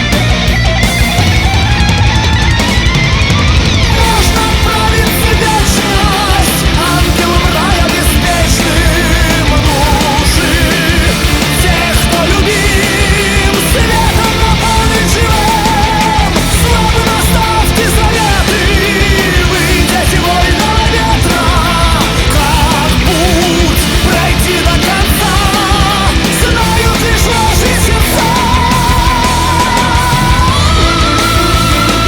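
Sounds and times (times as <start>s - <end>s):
distorted rock band: 0.0s - 32.0s
person singing vibrato: 3.8s - 32.0s.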